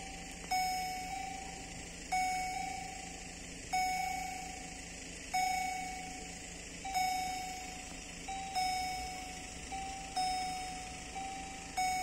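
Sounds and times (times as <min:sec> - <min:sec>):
level crossing warning bells: 0:00.0 - 0:12.0.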